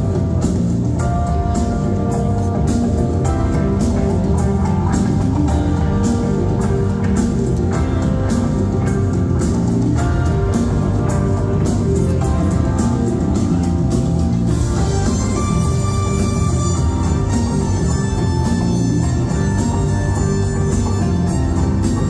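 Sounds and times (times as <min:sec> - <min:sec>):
live electronic rock band: 0:00.0 - 0:22.0
steady drum beat: 0:00.0 - 0:22.0.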